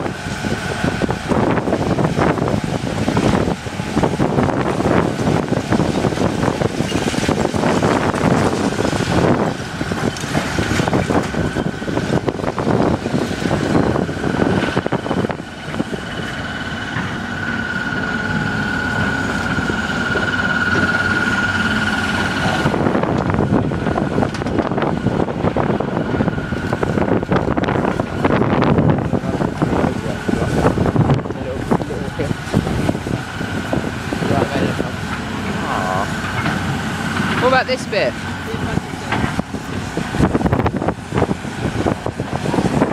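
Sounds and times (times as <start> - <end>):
excavator engine and hydraulics: 0.0 - 42.9
high steady whine: 0.0 - 42.9
wind buffeting microphone: 0.0 - 42.9.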